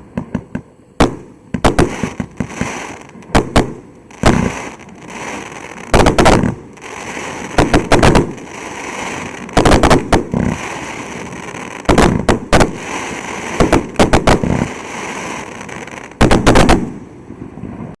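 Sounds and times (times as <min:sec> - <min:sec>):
firework hiss: 0:00.0 - 0:18.0
firework loud bangs: 0:00.1 - 0:18.0.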